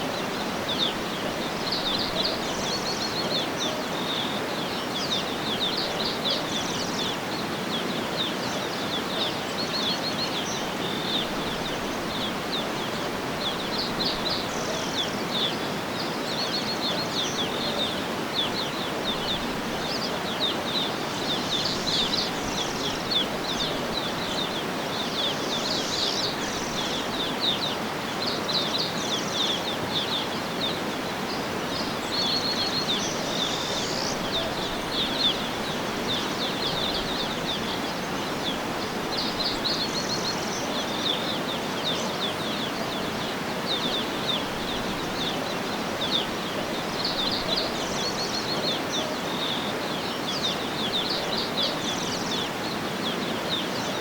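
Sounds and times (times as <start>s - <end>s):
birds chirping and trilling: 0.1s - 54.0s.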